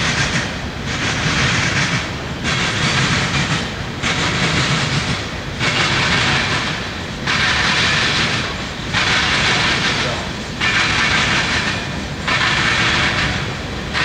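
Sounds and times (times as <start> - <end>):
hissing rush: 0.0 - 14.0
train wheels rumbling on rail: 0.0 - 14.0.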